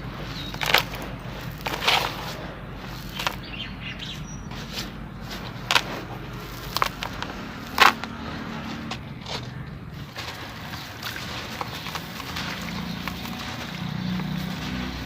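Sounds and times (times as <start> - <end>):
dry sand-cement crumbling: 0.0 - 15.0.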